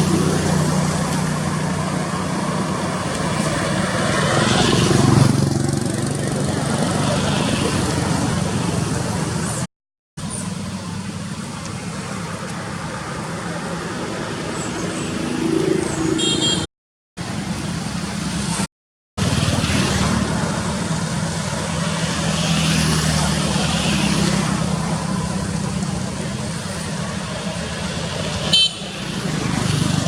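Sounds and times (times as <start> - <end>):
road traffic engines humming: 0.0 - 30.0.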